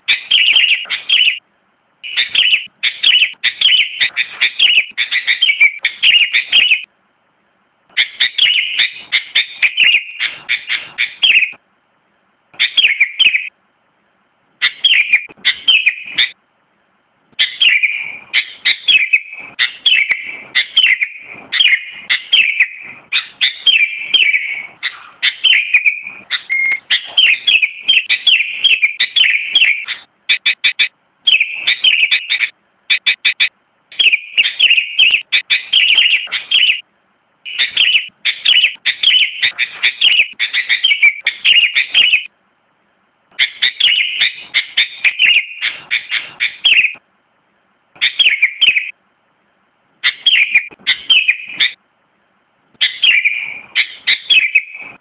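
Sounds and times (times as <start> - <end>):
bird singing chirpy notes: 0.0 - 1.4, 2.0 - 6.9, 7.9 - 11.6, 12.6 - 13.5, 14.6 - 16.4, 17.4 - 36.8, 37.5 - 42.3, 43.3 - 47.0, 48.0 - 49.0, 50.0 - 51.8, 52.8 - 55.0.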